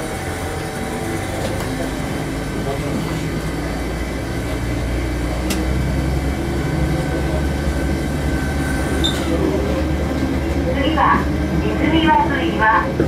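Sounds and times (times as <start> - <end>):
diesel railcar engine under load: 0.0 - 13.0.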